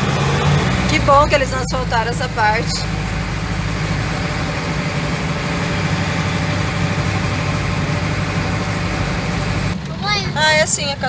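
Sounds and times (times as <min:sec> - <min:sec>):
tyres on dirt road: 0:00.0 - 0:11.0
van engine running: 0:00.0 - 0:11.0.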